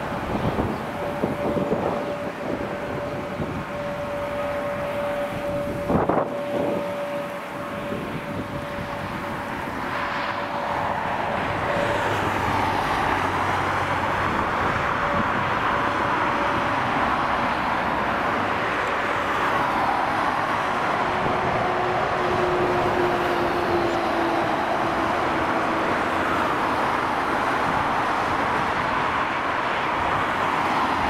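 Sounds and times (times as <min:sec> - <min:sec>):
jet engine rumble with whine: 0:00.0 - 0:31.0.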